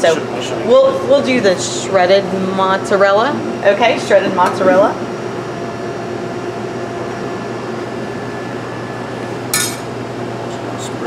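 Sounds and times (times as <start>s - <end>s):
kitchen machinery hum: 0.0s - 11.0s.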